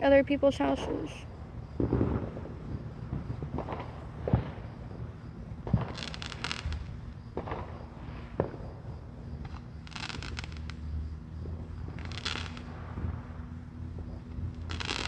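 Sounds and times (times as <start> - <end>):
crackling firework shells: 0.0 - 15.0
firework bangs: 0.6 - 15.0.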